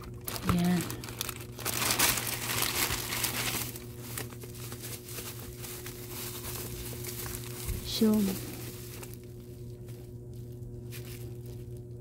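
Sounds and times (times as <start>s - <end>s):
plastic and bubble wrap crinkling: 0.0s - 12.0s.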